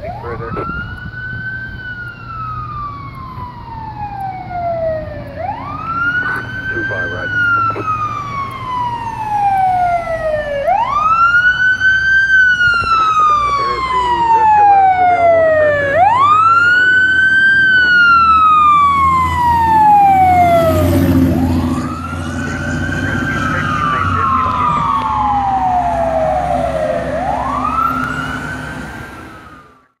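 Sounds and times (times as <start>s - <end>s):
truck engine rumble: 0.0s - 29.9s
fire engine siren wailing: 0.0s - 30.0s.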